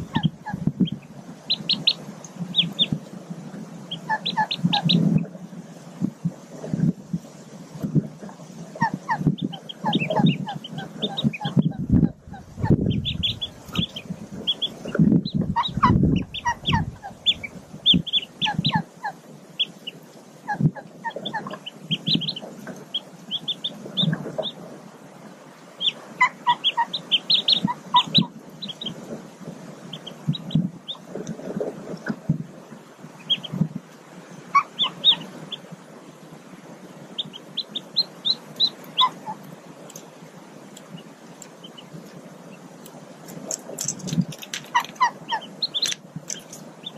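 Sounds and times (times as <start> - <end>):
ducklings peeping: 0.0 - 5.4, 7.8 - 24.8, 25.4 - 33.7, 34.4 - 35.7, 37.0 - 43.8, 44.6 - 46.9.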